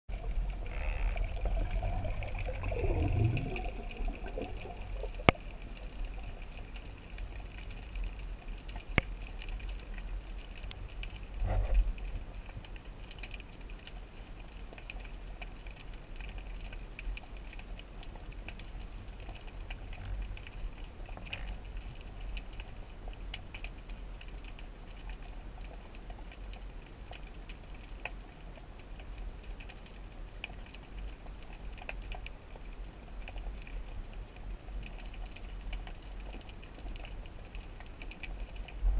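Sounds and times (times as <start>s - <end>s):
underwater low rumble: 0.1s - 38.9s.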